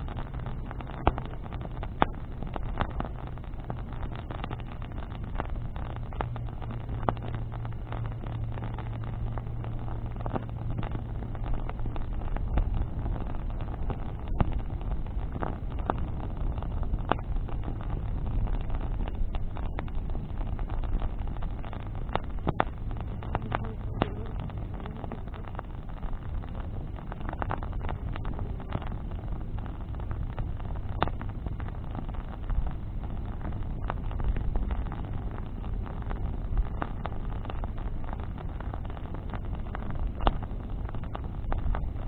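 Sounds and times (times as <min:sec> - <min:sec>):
bonfire crackling and popping: 0:00.0 - 0:42.0
fire low rumble: 0:00.0 - 0:42.0.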